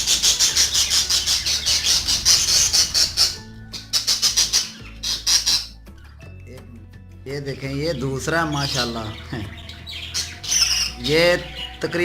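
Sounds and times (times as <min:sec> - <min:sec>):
budgerigar chicks squawking: 0:00.0 - 0:06.2, 0:07.8 - 0:12.0
background music: 0:00.0 - 0:12.0.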